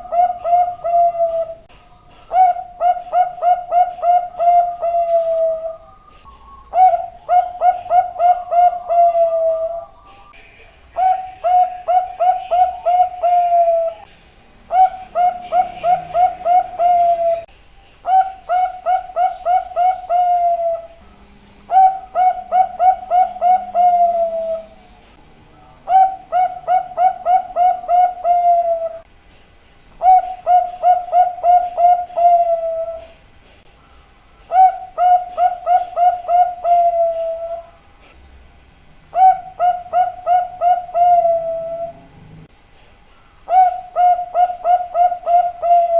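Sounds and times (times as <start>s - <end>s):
dove cooing song: 0.0s - 29.1s, 29.9s - 37.9s, 39.1s - 42.4s, 43.5s - 45.9s.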